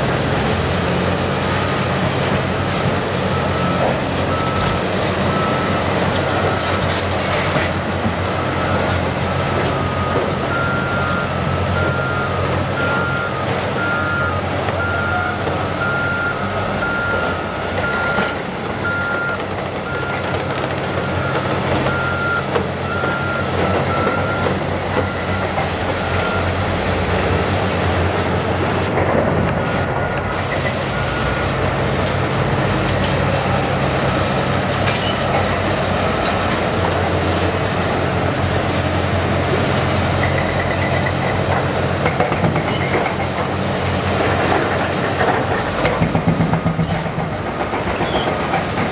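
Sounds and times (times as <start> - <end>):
diesel excavators running: 0.0 - 48.9.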